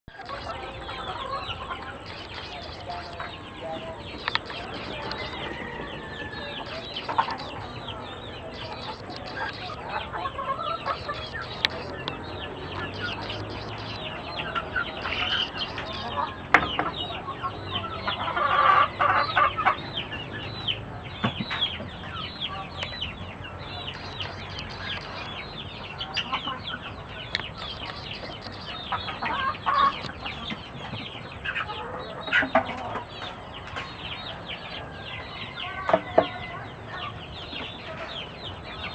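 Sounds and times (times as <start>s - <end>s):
chickens peeping and clucking: 0.1s - 38.9s.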